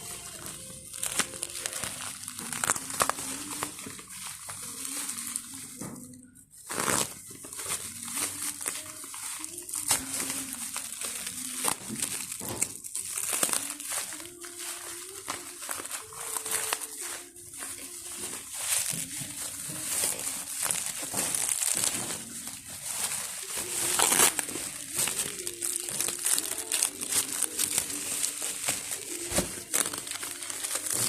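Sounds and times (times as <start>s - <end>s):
plastic packaging crinkling: 0.0s - 31.0s.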